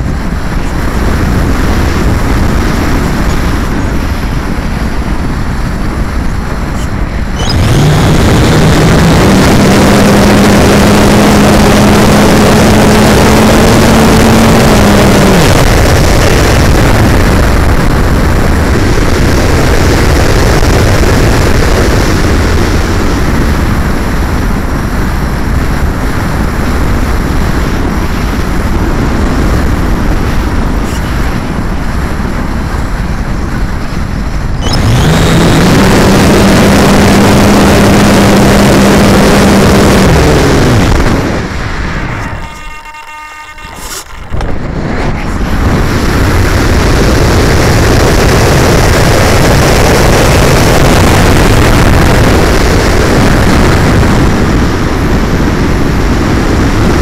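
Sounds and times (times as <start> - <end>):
wind rushing over camera: 0.0 - 42.6, 43.7 - 57.0
electric motor and propeller whine: 0.0 - 57.0.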